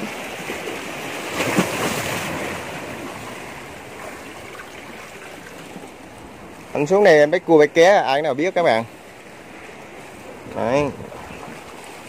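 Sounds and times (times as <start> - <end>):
sea waves among rocks: 0.0 - 12.0.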